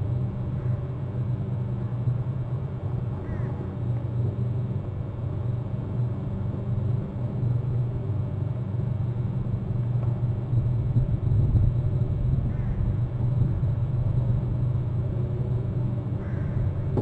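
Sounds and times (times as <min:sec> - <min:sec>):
faint hum: 0:00.0 - 0:17.0
low outdoor rumble: 0:00.0 - 0:17.0.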